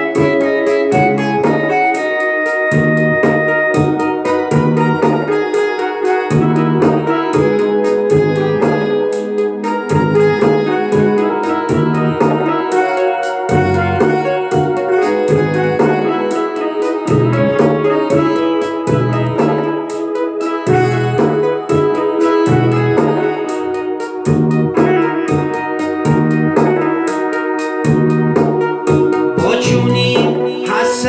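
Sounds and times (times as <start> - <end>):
bass line: 0.0 - 31.0
keyboard melody: 0.0 - 31.0.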